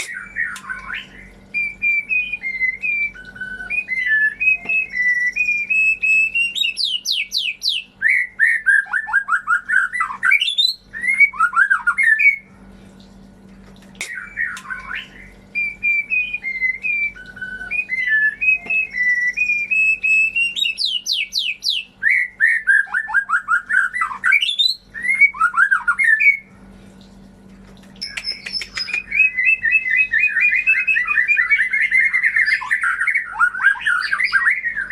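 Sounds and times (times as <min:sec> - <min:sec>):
bird song whistles and trills: 0:00.0 - 0:12.5, 0:14.0 - 0:26.5, 0:28.0 - 0:34.9
faint low hum: 0:00.0 - 0:34.9.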